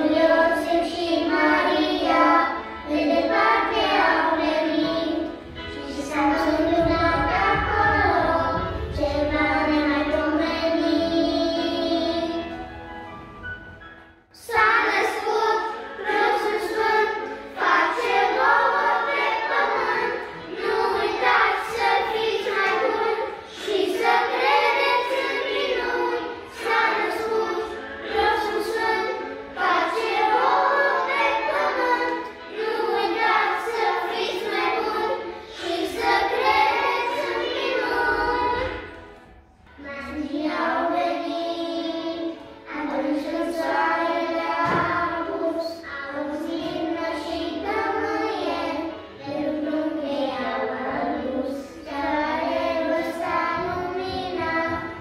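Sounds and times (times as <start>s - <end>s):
children singing a carol: 0.0s - 12.8s, 14.3s - 55.0s.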